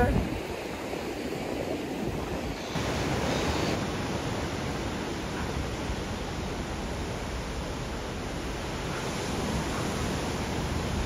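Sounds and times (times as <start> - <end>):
ocean surf breaking: 0.0 - 11.0
wind: 0.0 - 11.0
wind buffeting microphone: 0.0 - 11.0.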